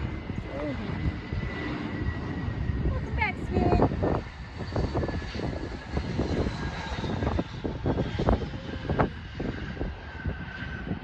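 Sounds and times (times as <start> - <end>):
jet engines whining: 0.0 - 11.0
low gusty rumble: 0.0 - 11.0.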